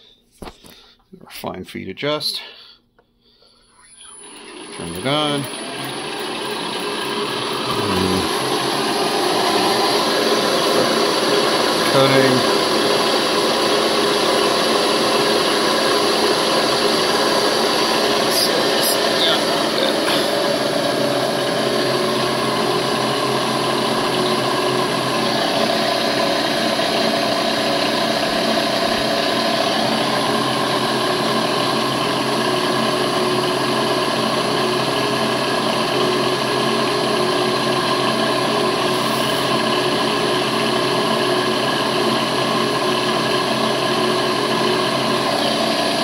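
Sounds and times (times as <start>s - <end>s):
milling machine drilling steel: 3.9s - 46.0s.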